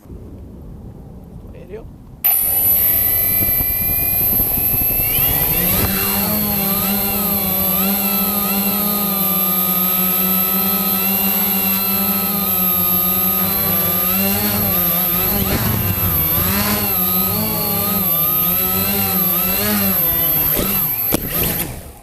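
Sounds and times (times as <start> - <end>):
quadcopter motors whining: 2.2 - 22.0.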